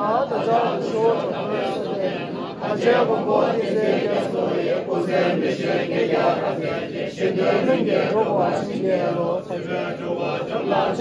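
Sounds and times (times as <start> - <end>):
crowd chanting a prayer: 0.0 - 11.0.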